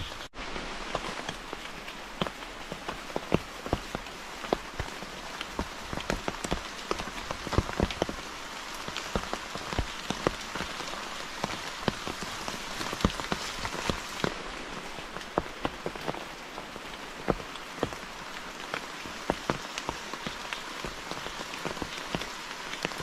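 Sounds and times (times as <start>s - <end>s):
heavy raindrops striking: 0.0s - 23.0s
steady rain falling: 0.0s - 23.0s.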